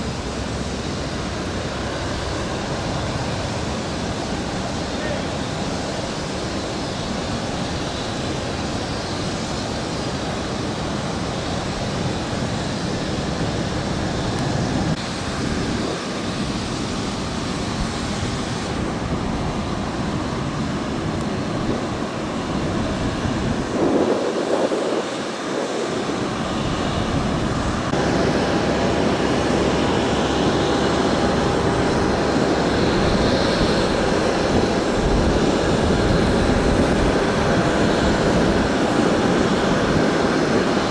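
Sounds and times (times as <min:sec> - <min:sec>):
jet aircraft rushing noise: 0:00.0 - 0:40.9.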